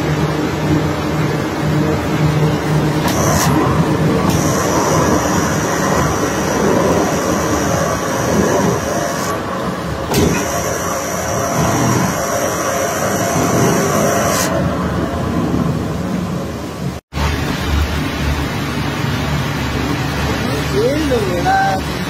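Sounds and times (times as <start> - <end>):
heavy machinery engine running: 0.0 - 22.0
thin high whine: 0.0 - 22.0.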